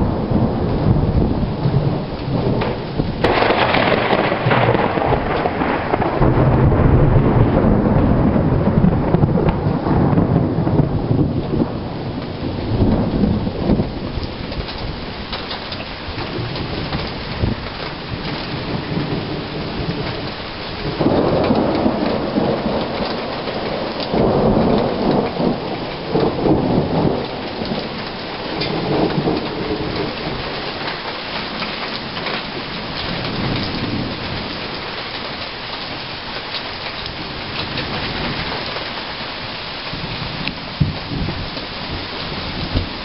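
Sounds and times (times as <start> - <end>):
steady rain pattering: 0.0 - 43.0
thunder rumbling: 0.0 - 43.0.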